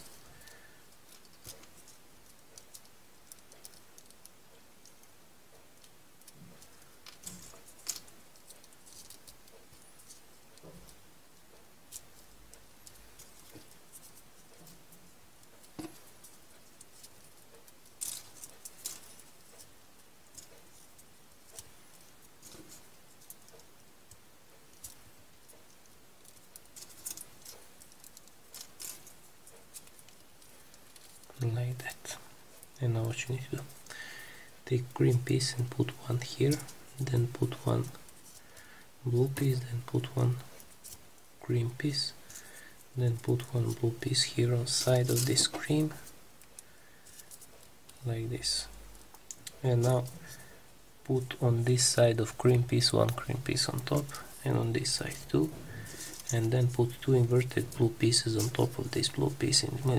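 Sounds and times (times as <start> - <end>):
steady low hiss: 0.0 - 59.9.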